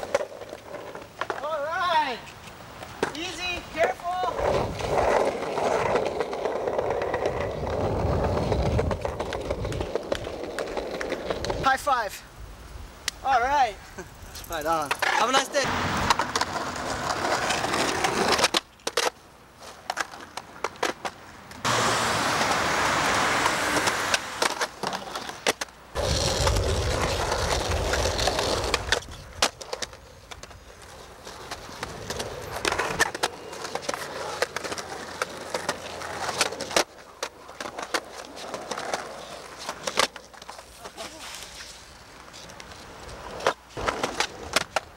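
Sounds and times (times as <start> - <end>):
skateboard clacking on ground: 0.0 - 11.8, 14.3 - 21.8, 23.4 - 44.9
skateboard wheels rolling on concrete: 0.0 - 44.9.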